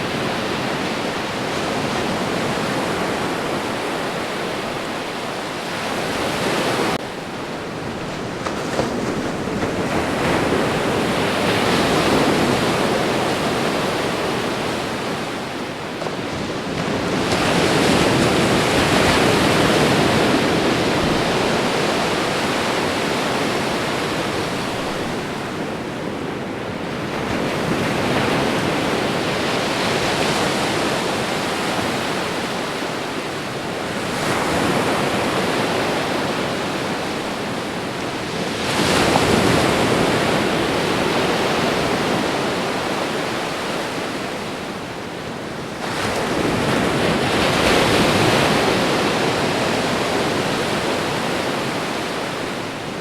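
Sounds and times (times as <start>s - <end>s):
ocean waves breaking: 0.0s - 53.0s.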